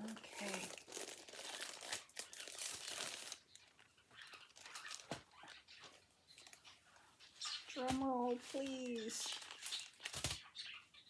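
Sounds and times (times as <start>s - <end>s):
packaging crinkling and rustling: 0.0s - 6.8s, 7.5s - 10.5s.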